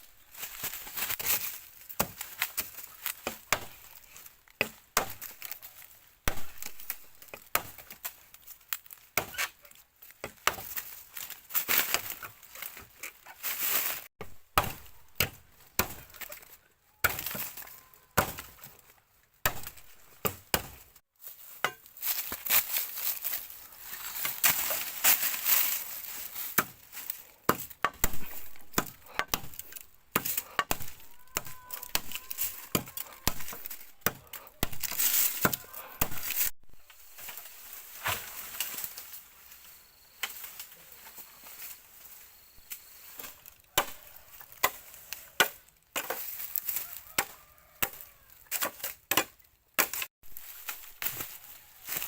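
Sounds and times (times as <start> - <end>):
bamboo being chopped: 0.2 - 39.1, 42.7 - 52.0.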